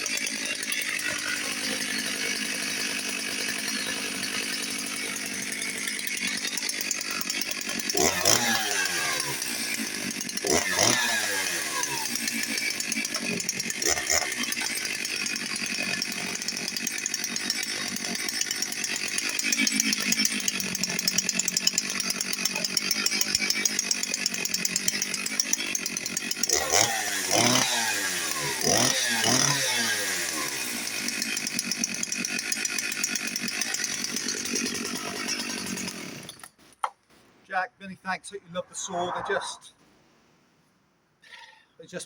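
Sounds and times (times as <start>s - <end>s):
chainsaw running and revving: 0.0s - 36.6s.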